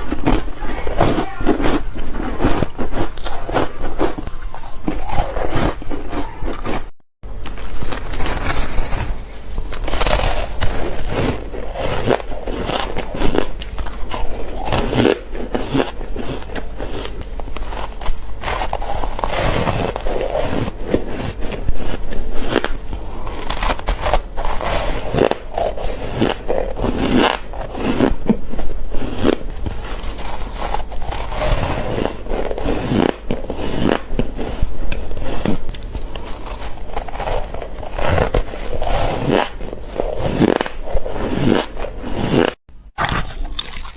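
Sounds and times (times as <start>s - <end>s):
ice being chewed: 0.0s - 43.9s.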